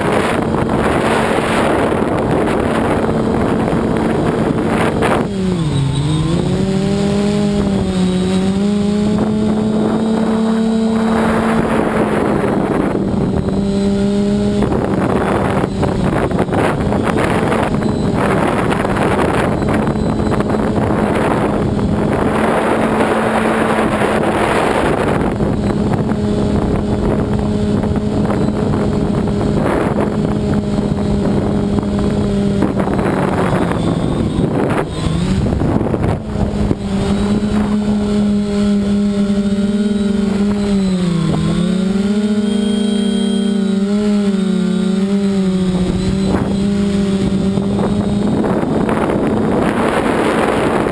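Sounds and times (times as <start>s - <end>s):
wind buffeting microphone: 0.0s - 42.4s, 43.8s - 50.9s
drone motors humming: 0.0s - 50.9s.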